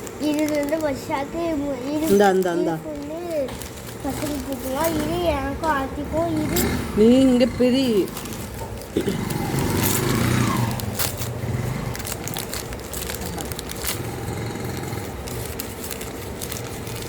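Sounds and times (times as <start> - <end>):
wrapping paper crinkling: 0.0 - 6.7, 7.7 - 17.0.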